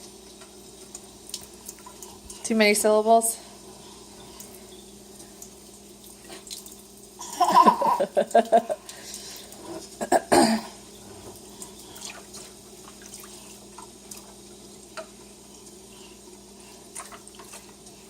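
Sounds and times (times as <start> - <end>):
tap water running: 0.0 - 18.0.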